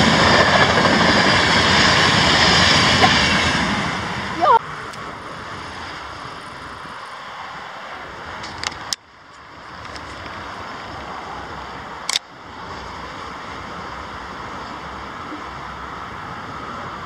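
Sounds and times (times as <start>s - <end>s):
distant traffic: 0.0s - 17.0s
wind: 0.0s - 17.0s.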